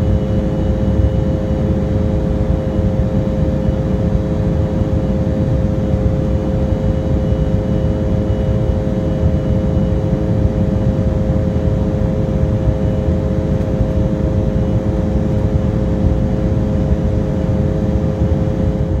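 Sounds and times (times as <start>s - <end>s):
jet engine hum: 0.0s - 19.0s.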